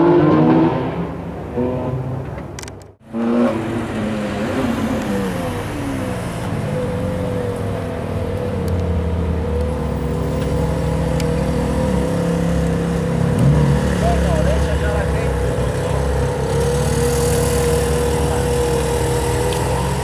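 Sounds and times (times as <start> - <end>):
sports car engine at low revs: 0.0 - 20.0.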